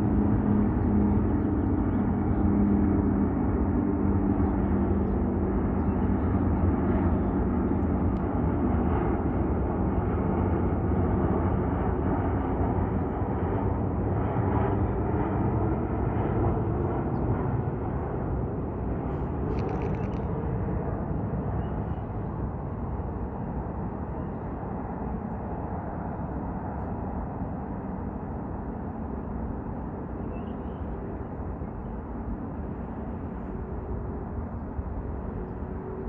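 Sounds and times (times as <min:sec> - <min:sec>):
jet aircraft passing over: 0:00.0 - 0:36.0.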